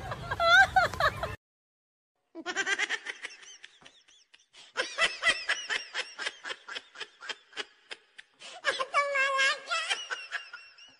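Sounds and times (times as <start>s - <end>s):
high-pitched laughter: 0.0s - 1.4s, 2.4s - 10.9s.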